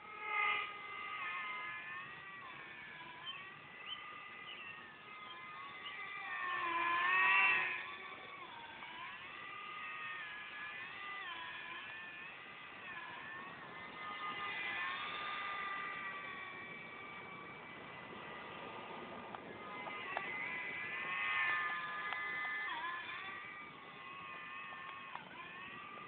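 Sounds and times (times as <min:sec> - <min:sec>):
model airplane motor whining: 0:00.0 - 0:26.0.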